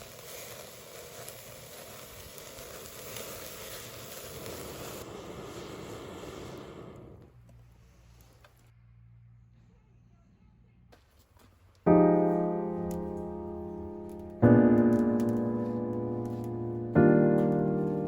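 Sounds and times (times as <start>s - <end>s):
bonfire hissing: 0.0s - 8.7s, 11.9s - 18.0s
fire crackles: 0.0s - 8.7s, 11.7s - 18.0s.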